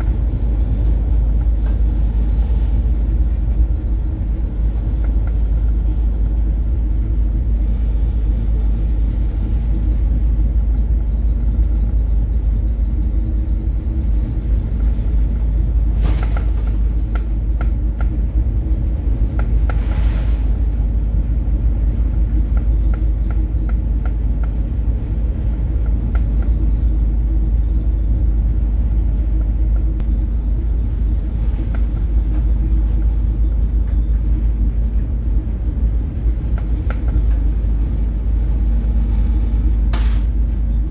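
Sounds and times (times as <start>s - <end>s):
ship diesel engine droning: 0.0s - 40.9s.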